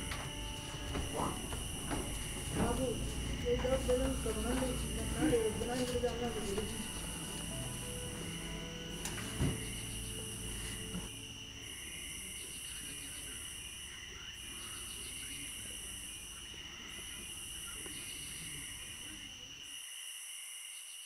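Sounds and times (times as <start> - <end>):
high insect buzzing: 0.0 - 19.6
crickets trilling: 0.0 - 21.0.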